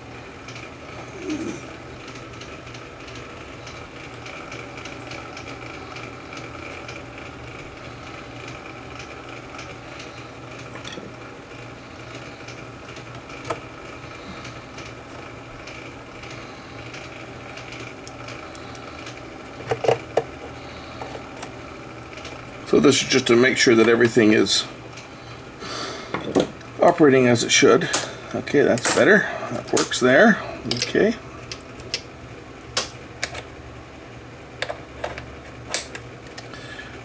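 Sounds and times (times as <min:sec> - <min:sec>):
tape deck transport whirring: 0:00.0 - 0:37.0.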